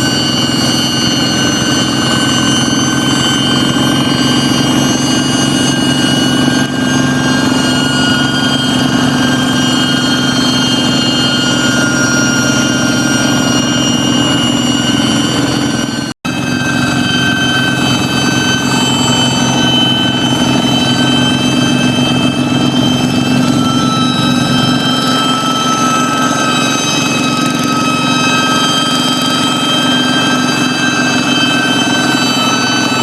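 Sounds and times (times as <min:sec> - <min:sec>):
hand tractor engine whistling: 0:00.0 - 0:33.0.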